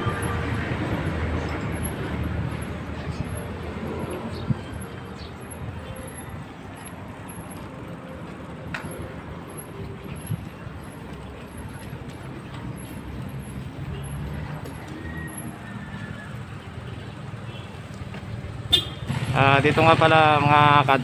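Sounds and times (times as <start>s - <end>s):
bicycle tyres rolling on concrete: 0.0s - 19.4s.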